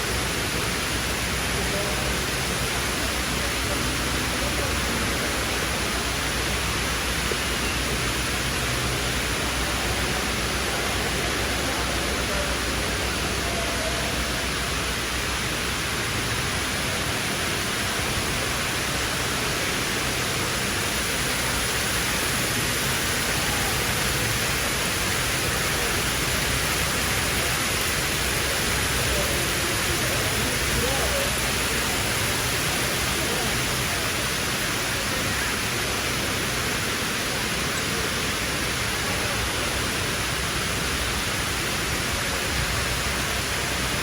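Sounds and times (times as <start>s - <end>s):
rushing indoor waterfall: 0.0s - 44.0s.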